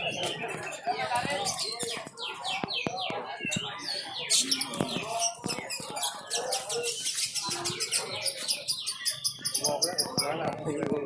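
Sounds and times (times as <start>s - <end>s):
people talking faintly: 0.0s - 11.0s
songbirds chirping and trilling: 0.0s - 11.0s.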